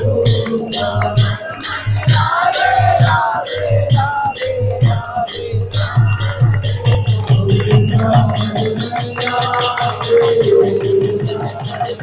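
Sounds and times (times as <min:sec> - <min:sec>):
two-headed drum beat: 0:00.0 - 0:12.0.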